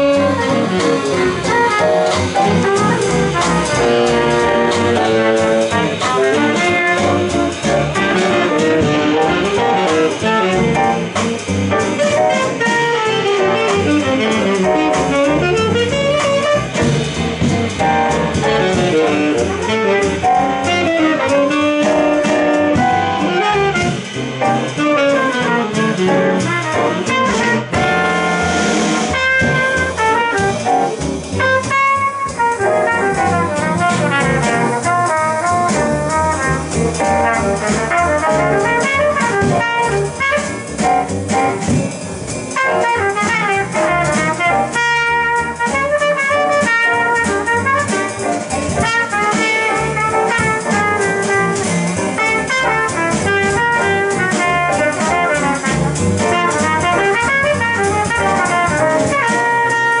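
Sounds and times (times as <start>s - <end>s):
trumpet lead: 0.0s - 11.2s, 11.8s - 17.2s, 18.0s - 41.3s, 42.6s - 60.0s
drums: 0.0s - 60.0s
upright bass: 0.0s - 60.0s.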